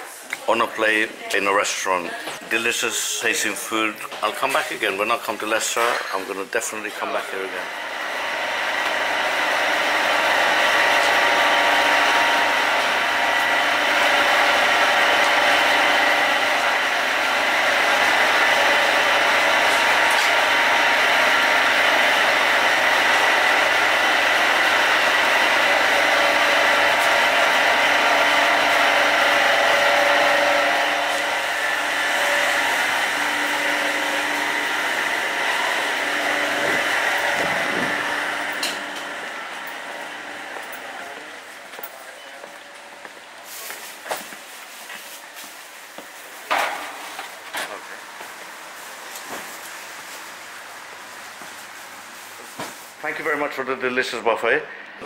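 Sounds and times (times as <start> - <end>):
fan whirring: 0.0 - 55.0.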